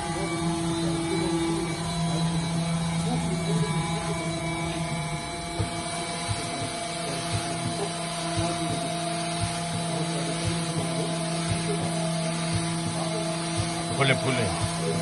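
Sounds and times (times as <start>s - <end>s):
low regular ticking: 0.0s - 15.0s
machine humming: 0.0s - 15.0s.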